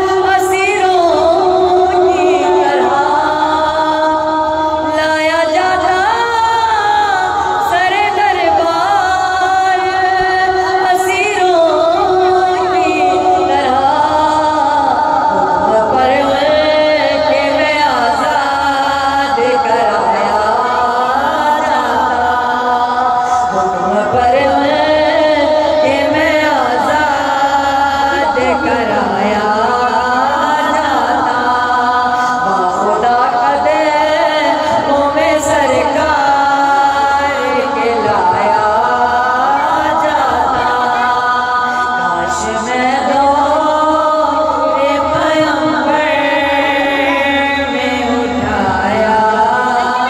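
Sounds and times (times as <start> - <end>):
woman singing into a microphone: 0.0 - 50.0.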